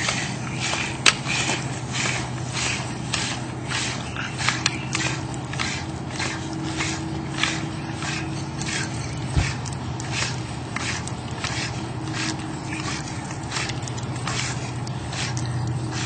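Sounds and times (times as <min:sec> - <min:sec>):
air pump strokes hissing: 0:00.0 - 0:16.0.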